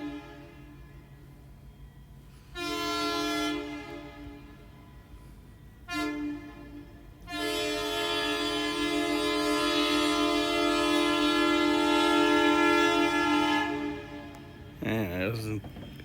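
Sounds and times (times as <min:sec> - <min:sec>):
train horn blasts: 0:00.0 - 0:14.8.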